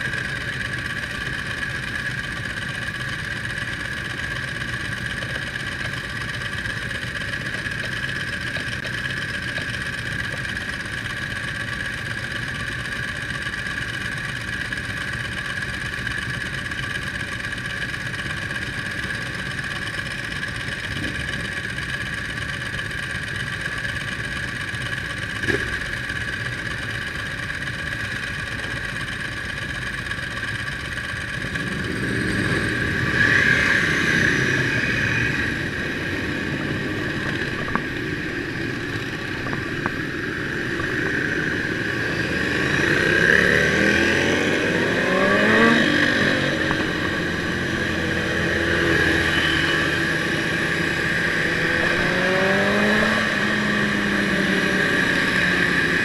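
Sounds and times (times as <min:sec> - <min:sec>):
motorcycle engines idling and revving: 0:00.0 - 0:56.0.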